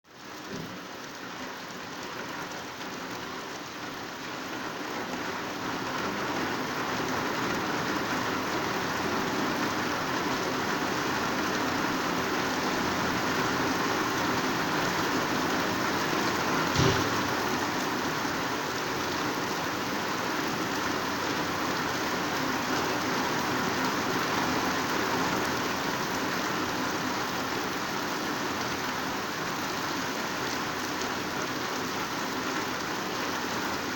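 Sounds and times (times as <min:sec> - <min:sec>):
heavy rain on leaves: 0:00.0 - 0:33.9.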